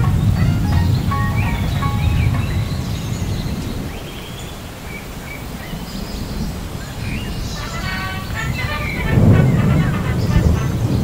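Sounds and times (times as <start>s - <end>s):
light rain hissing: 0.0s - 11.0s
small birds chirping: 0.0s - 11.0s.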